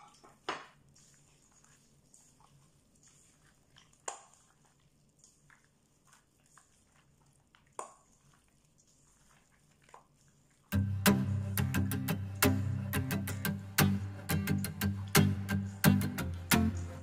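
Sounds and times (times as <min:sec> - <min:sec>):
meat squelching in a bowl: 0:00.0 - 0:17.0.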